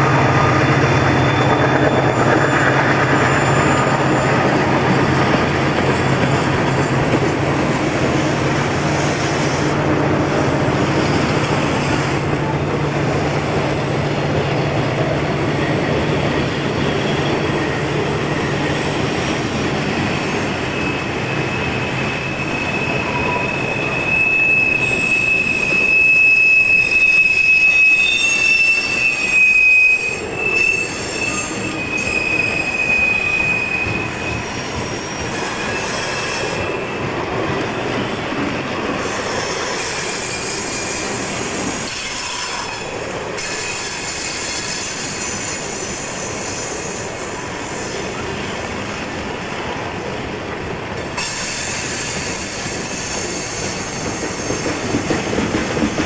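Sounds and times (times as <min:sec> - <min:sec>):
high wheel squeal: 0:00.0 - 0:37.2, 0:38.0 - 0:49.3
freight train rumbling past: 0:00.0 - 0:56.0.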